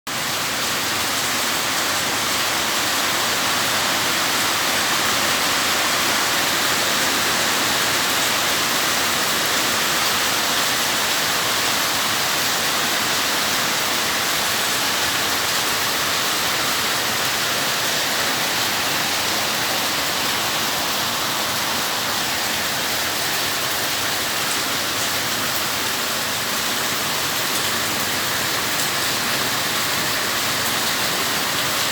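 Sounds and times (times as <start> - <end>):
heavy rain falling: 0.1 - 31.9.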